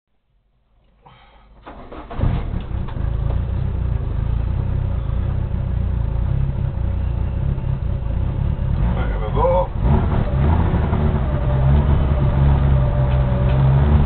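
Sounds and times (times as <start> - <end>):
car engine idling: 0.8 - 14.0.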